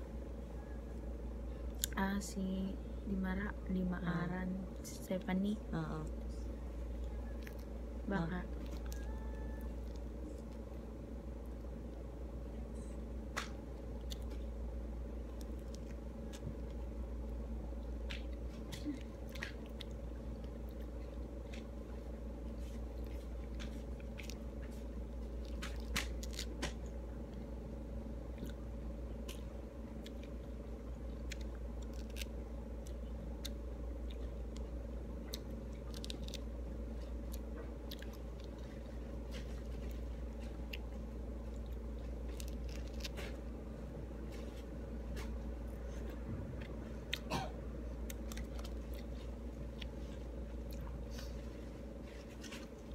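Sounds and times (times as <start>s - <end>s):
steady low hum: 0.0s - 52.9s
fruit being peeled and chewed: 5.1s - 52.9s.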